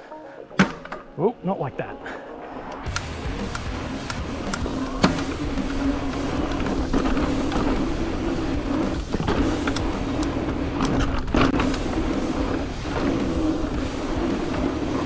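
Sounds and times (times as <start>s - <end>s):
electric bike motor whining: 2.4s - 15.0s
low rumble: 2.6s - 14.9s.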